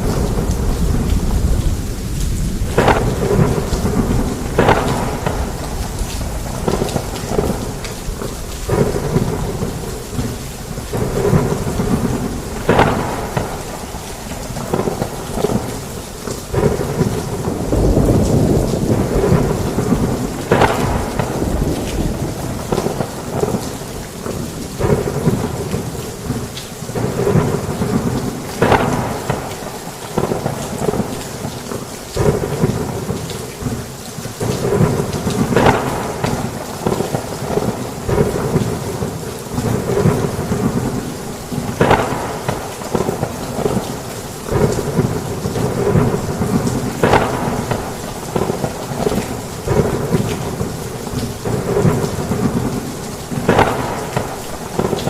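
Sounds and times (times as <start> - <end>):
sharp thunder crack: 0.0 - 15.9, 16.5 - 31.5, 34.4 - 55.0
heavy rain pouring: 0.0 - 55.0
rolling thunder: 0.0 - 55.0.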